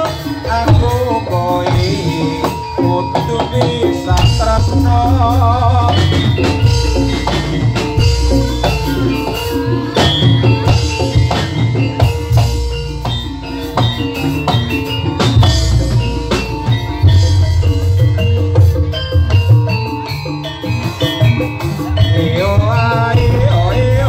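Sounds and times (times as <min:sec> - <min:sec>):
drums and gamelan percussion: 0:00.0 - 0:24.0
ringing metal tones: 0:00.0 - 0:24.0.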